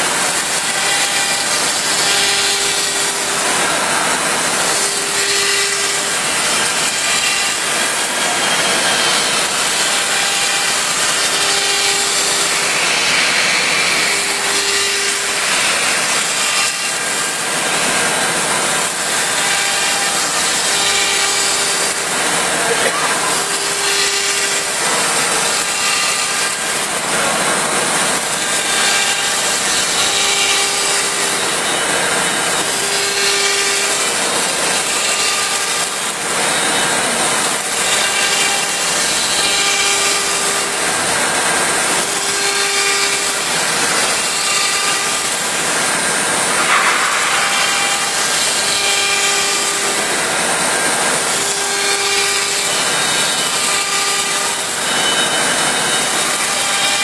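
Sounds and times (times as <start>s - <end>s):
pitched machine whine: 0.0s - 57.0s
router cutting wood: 0.0s - 57.0s.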